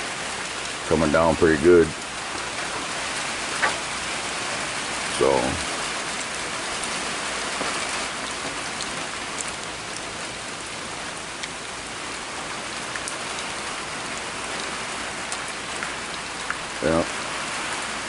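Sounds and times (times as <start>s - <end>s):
steady rain: 0.0s - 18.0s
sharp taps of raindrops: 1.8s - 4.3s, 5.1s - 17.9s.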